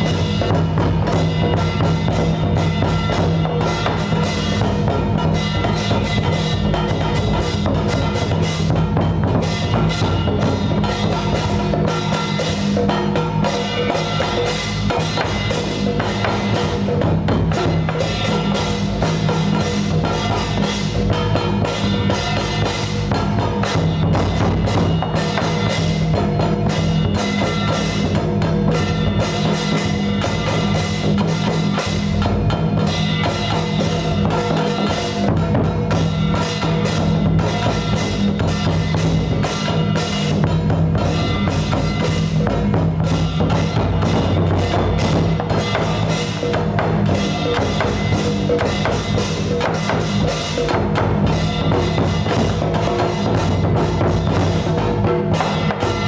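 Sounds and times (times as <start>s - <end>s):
ceremonial percussion music: 0.0s - 56.0s.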